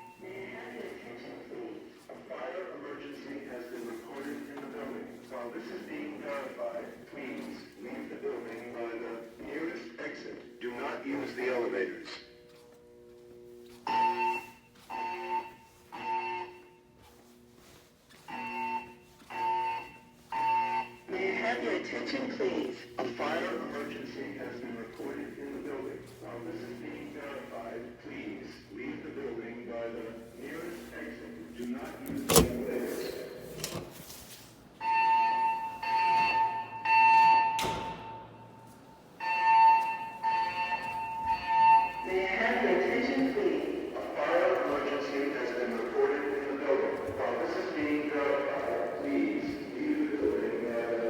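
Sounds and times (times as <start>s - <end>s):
fire alarm evacuation tones: 0.0s - 51.0s.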